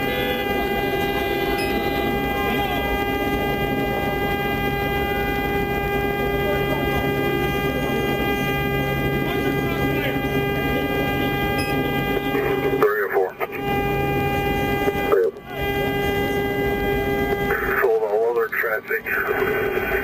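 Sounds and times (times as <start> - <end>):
low hum: 0.0 - 20.0
steady droning tone: 0.0 - 20.0.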